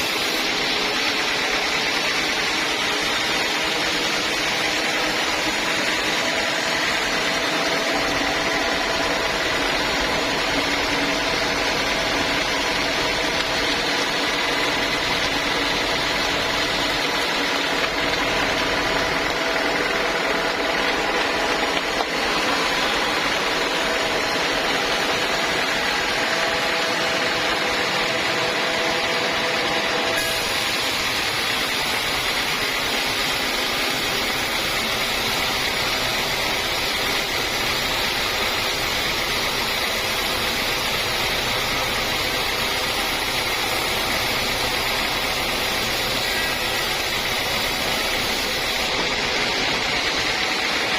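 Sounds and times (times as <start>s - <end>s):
sawmill saw humming and whining: 0.0s - 50.9s.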